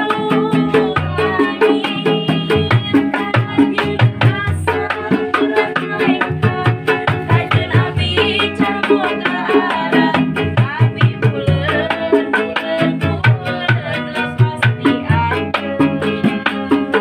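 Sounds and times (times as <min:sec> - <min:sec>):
bass: 0:00.0 - 0:17.0
hand drum beat: 0:00.0 - 0:17.0
string accompaniment: 0:00.0 - 0:17.0.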